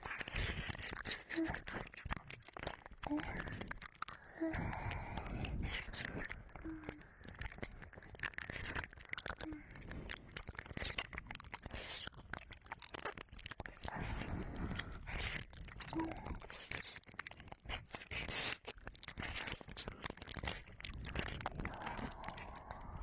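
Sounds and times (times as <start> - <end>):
wet mouth clicks and slurps: 0.0 - 23.0.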